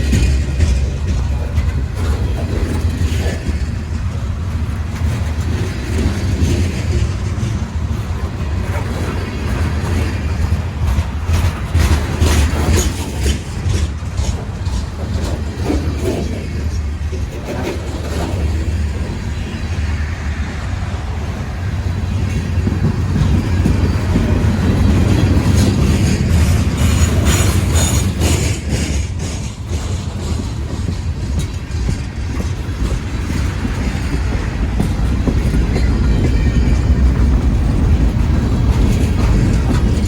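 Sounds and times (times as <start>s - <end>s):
wheel clicks over rail joints: 0.0s - 19.0s, 22.1s - 40.0s
freight train rumbling: 0.0s - 40.0s.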